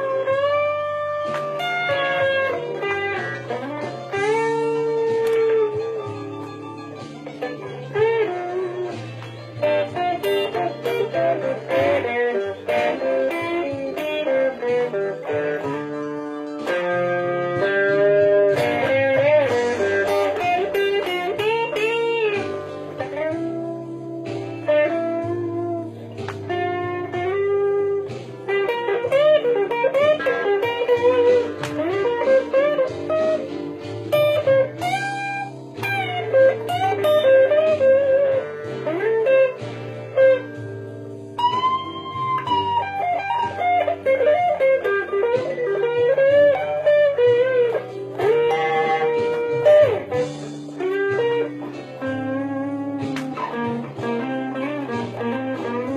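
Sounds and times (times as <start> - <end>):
electric guitar blues lead: 0.0 - 55.9.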